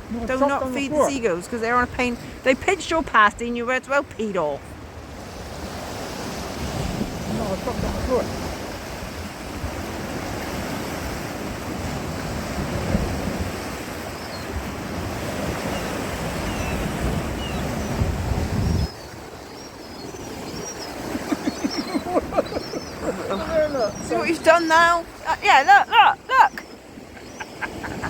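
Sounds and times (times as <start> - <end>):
sea surf: 0.0 - 28.0
wind buffeting microphone: 4.8 - 28.0.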